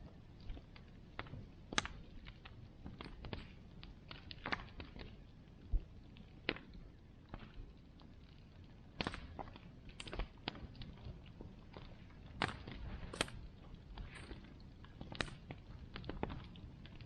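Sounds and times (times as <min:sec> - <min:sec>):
bonfire wood crackling and popping: 0:00.0 - 0:17.0
low rumble of flame: 0:00.0 - 0:17.0.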